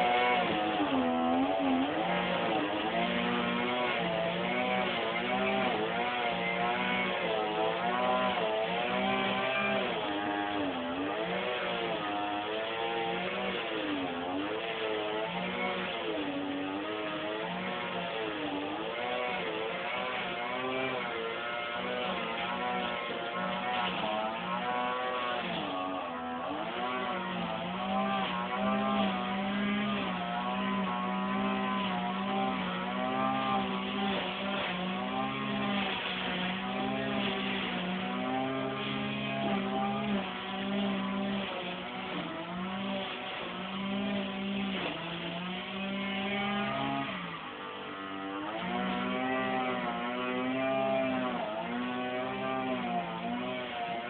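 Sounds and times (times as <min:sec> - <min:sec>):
motor running with wavering pitch: 0:00.0 - 0:54.0.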